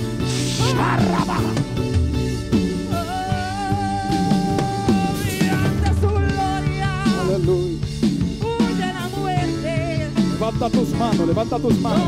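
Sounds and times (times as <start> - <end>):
bass: 0.0 - 12.0
drum kit beat: 0.0 - 12.0.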